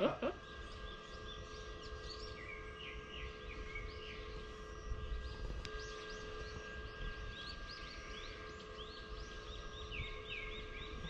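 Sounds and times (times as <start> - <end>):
low outdoor background hum: 0.0 - 11.0
small birds chirping: 0.0 - 11.0.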